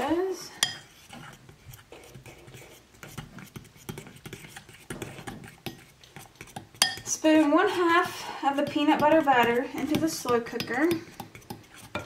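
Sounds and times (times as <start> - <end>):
spoon stirring batter in bowl: 0.0 - 12.0.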